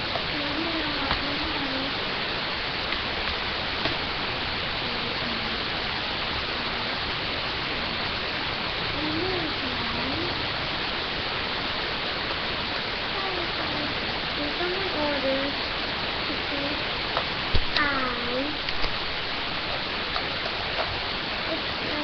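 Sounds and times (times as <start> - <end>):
microphone hiss: 0.0 - 22.0.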